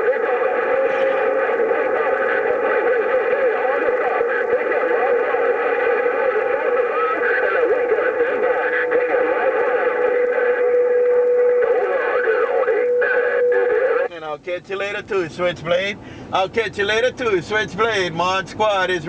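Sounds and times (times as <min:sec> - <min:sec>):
distorted radio transmissions: 0:00.0 - 0:19.0.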